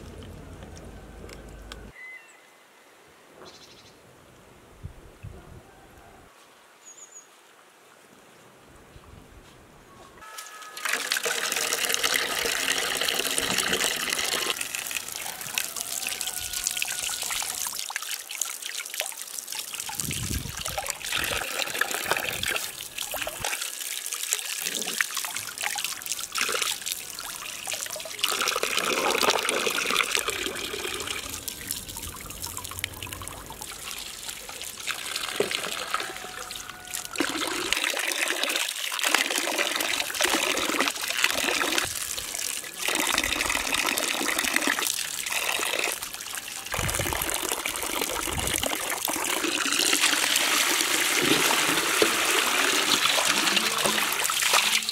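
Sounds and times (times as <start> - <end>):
water splashing into basin: 10.4 - 54.9.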